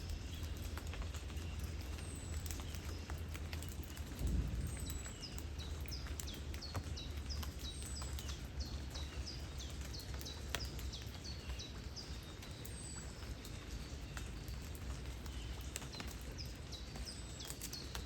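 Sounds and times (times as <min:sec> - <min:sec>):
raindrop ticks: 0:00.0 - 0:18.0.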